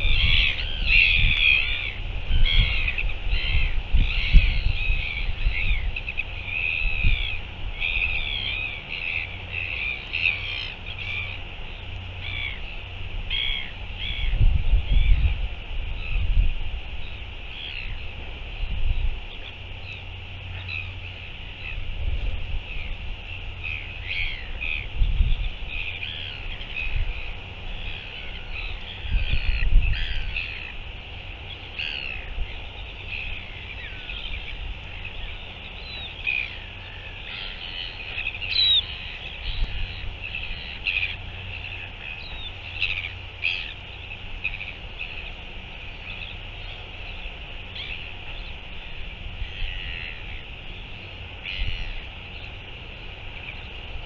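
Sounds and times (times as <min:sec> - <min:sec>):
gulls calling: 0:00.0 - 0:54.0
wind rumbling on microphone: 0:00.0 - 0:54.0.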